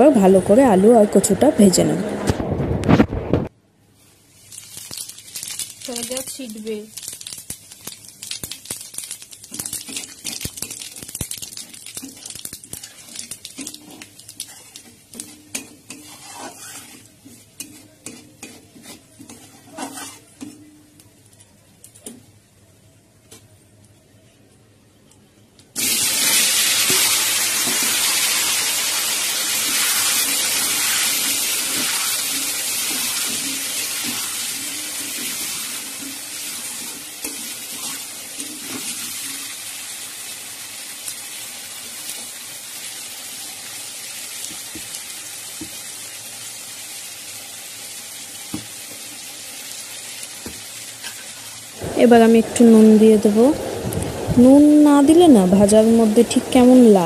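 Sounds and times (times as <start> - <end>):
potatoes sizzling in hot oil: 3.9 - 22.1, 25.8 - 57.0.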